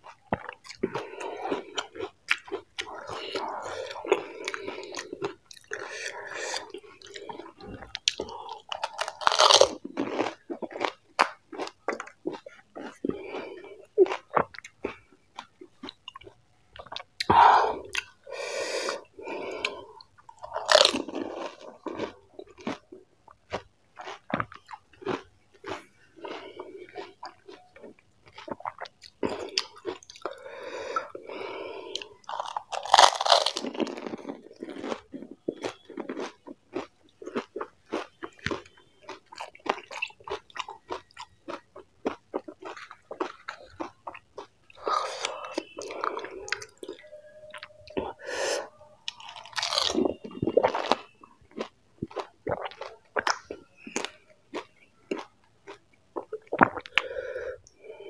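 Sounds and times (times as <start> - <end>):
crunchy food chewing: 0.0 - 58.0.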